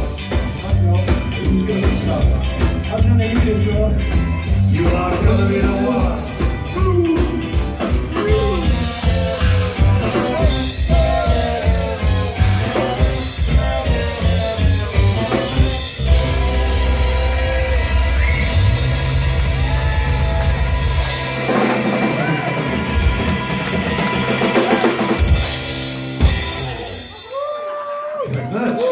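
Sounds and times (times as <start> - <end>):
upbeat band music with singing: 0.0 - 28.9.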